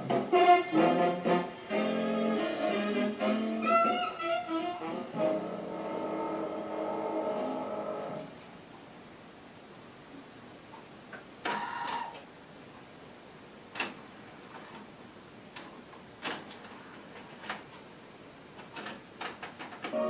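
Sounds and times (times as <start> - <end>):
low steady hiss: 0.0 - 20.0.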